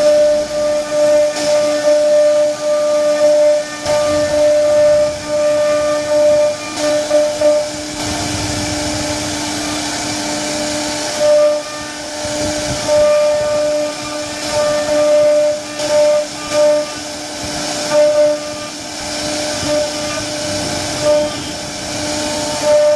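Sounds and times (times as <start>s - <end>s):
hiss of bit cutting wood: 0.0s - 22.9s
router spindle whining: 0.0s - 22.9s.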